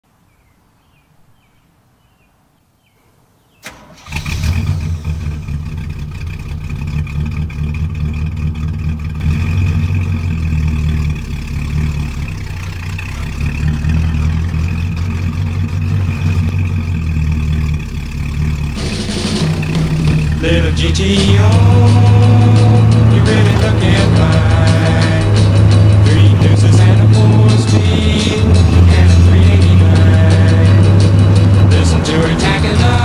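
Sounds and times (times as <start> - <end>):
car engine starting and rumbling: 3.6 - 33.0.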